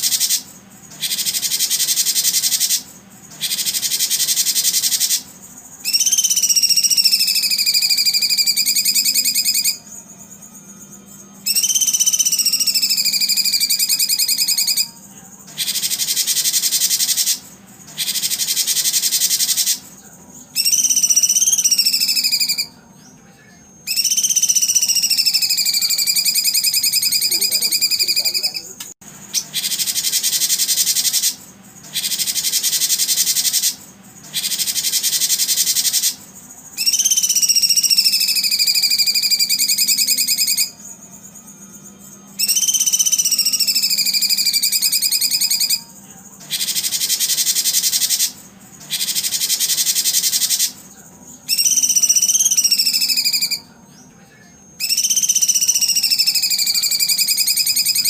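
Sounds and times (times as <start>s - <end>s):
high whistled bird calls: 0.0s - 23.2s, 23.8s - 54.0s, 54.8s - 58.0s.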